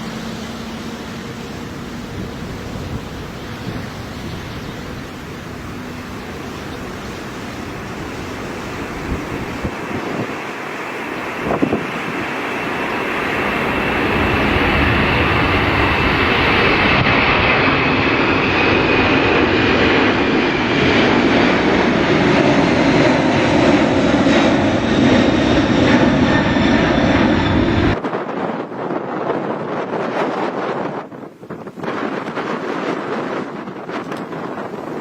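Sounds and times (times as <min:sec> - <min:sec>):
jet engines passing: 0:00.0 - 0:35.0
wind noise on microphone: 0:00.0 - 0:35.0.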